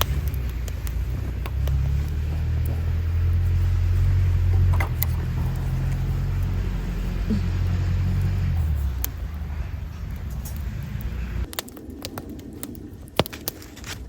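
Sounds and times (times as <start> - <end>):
car interior driving rumble: 0.0 - 11.5.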